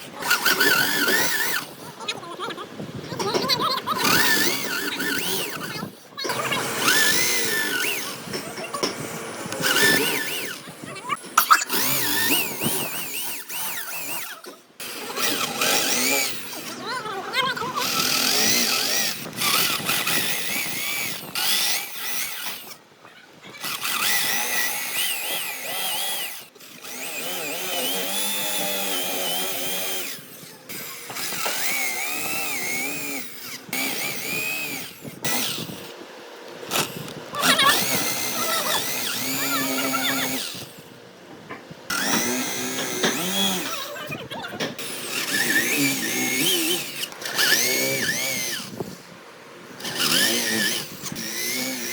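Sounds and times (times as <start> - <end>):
power tool whining on wood: 0.0 - 51.9.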